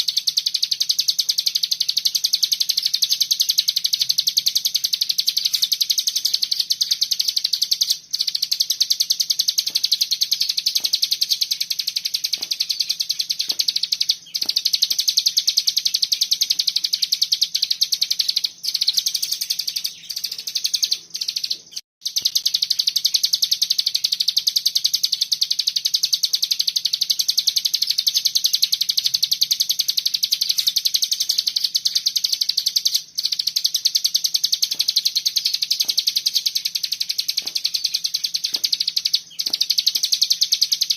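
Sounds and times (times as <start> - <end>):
songbird rattling trill: 0.0 - 40.9.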